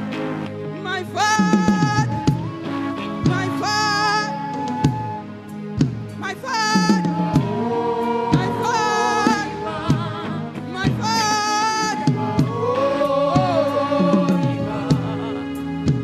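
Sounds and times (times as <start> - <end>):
band playing steady beat: 1.1 - 16.0.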